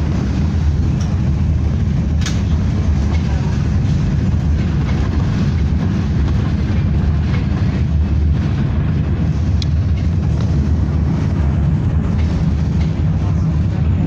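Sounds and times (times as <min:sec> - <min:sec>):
tram rumbling on track: 0:00.0 - 0:14.0.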